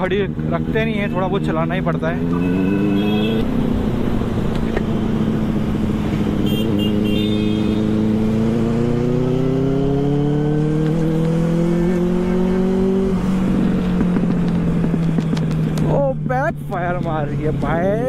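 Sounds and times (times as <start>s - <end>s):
motorcycle engine accelerating: 0.0s - 16.6s.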